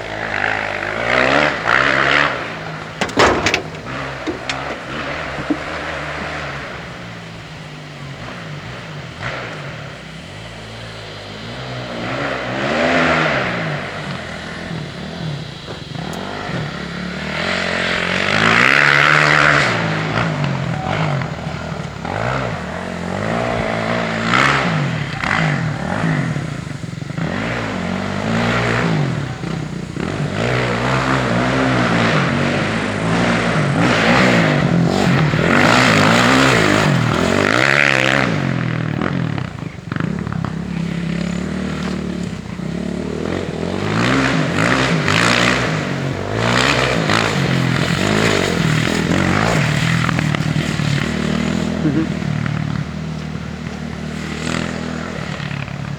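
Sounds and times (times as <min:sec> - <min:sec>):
dirt bike engine revving: 0:00.0 - 0:07.6, 0:11.4 - 0:55.9.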